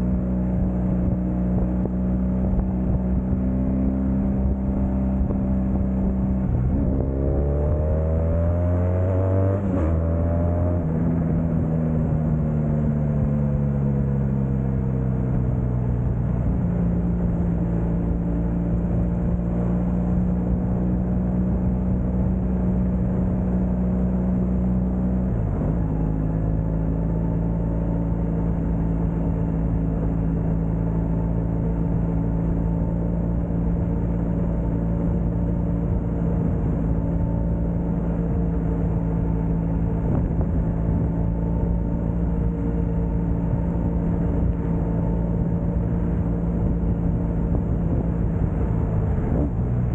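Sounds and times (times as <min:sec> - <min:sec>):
motorcycle engine revving: 0:00.0 - 0:49.9
road and wind noise: 0:00.0 - 0:49.9.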